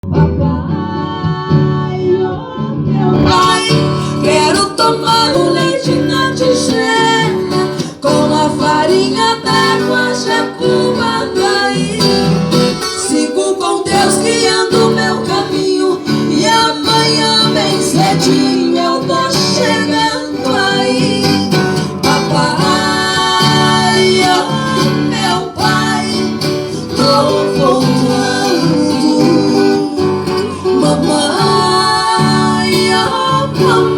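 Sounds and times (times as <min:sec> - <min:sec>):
country song with acoustic guitar: 0:00.0 - 0:33.9.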